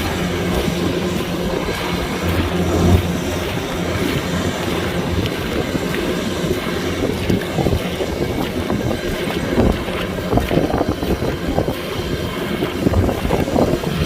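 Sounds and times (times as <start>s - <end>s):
combine harvester engine hum: 0.0s - 14.0s
machine working rush: 0.0s - 14.0s.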